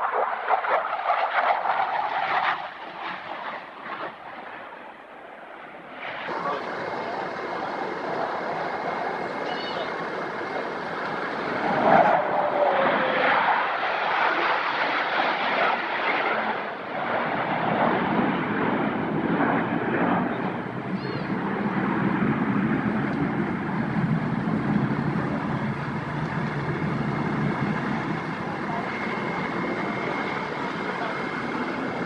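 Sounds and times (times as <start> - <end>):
aircraft passing overhead: 0.0 - 32.0.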